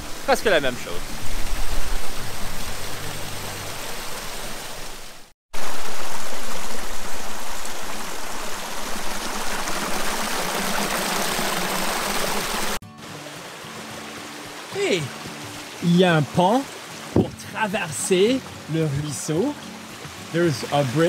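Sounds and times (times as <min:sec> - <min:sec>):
water rushing over rocks: 0:00.0 - 0:21.0.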